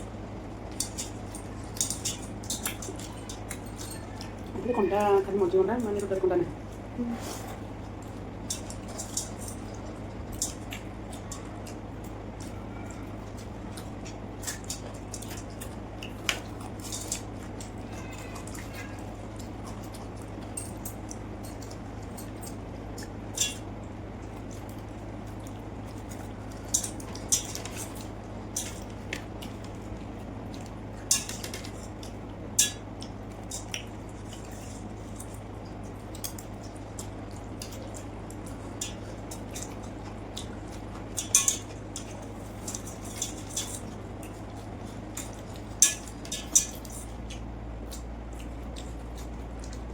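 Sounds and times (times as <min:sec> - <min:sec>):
soft wet eating sounds: 0:00.0 - 0:49.9
steady low hum: 0:00.0 - 0:49.9.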